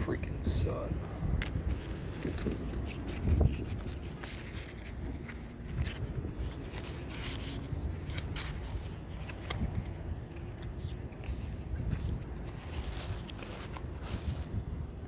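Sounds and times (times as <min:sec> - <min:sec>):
wind rumble on microphone: 0:00.0 - 0:15.0
cards rustling and flicking: 0:01.4 - 0:15.0.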